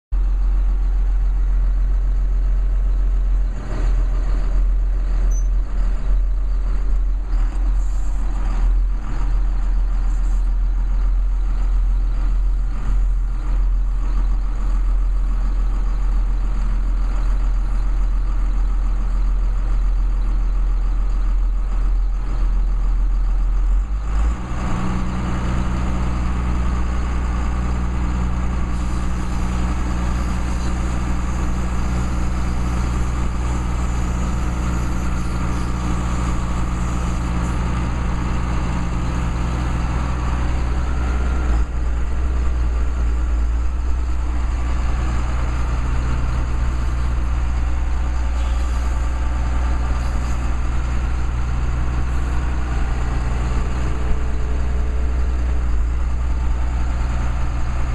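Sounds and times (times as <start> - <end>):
tractor diesel engine running: 0.1 - 57.9.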